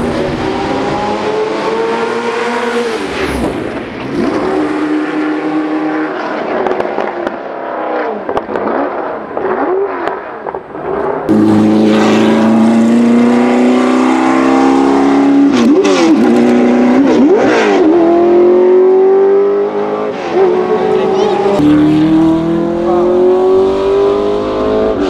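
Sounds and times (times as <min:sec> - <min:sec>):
racing engine accelerating: 0:00.0 - 0:25.0.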